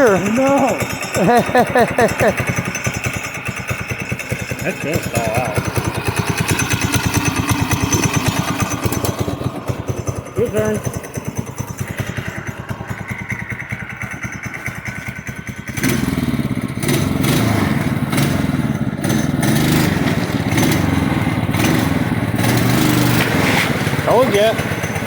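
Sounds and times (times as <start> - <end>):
small engine revving: 0.0 - 25.0.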